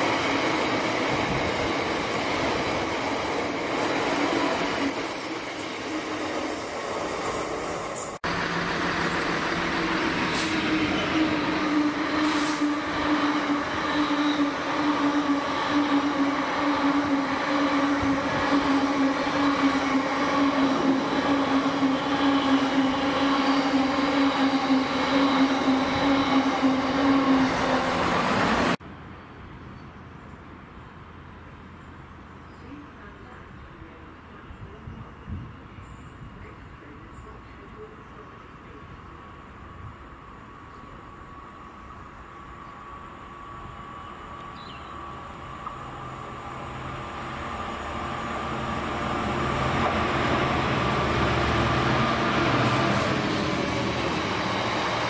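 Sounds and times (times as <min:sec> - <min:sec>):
freight train rumbling over rails: 0:00.0 - 0:28.8, 0:32.6 - 0:55.0.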